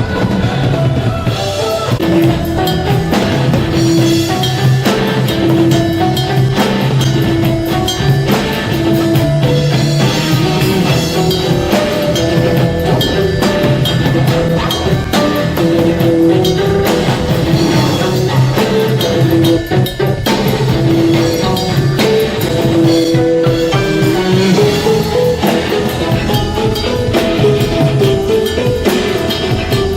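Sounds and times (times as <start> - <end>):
drum hits: 0.0 - 29.9
melody and bass line: 0.0 - 29.9.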